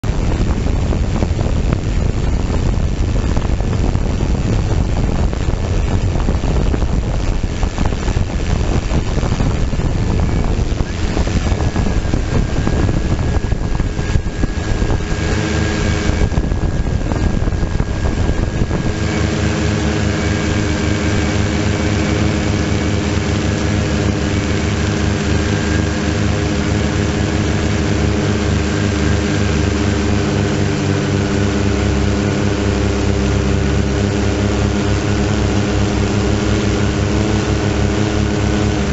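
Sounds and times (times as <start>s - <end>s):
drone propellers humming: 0.0s - 38.9s
wind buffeting microphone: 0.0s - 38.9s.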